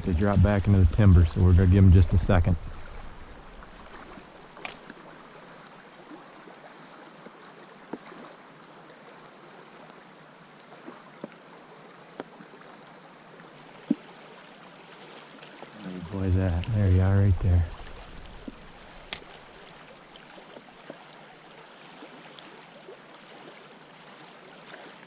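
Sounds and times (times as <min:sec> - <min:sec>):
creek water flowing: 0:00.0 - 0:25.0.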